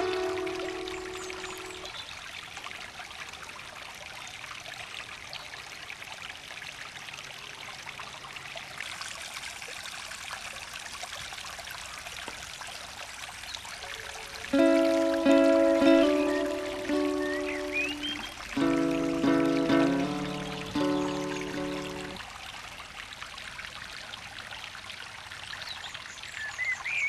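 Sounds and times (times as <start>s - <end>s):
stream splashing over rocks: 0.0s - 27.0s.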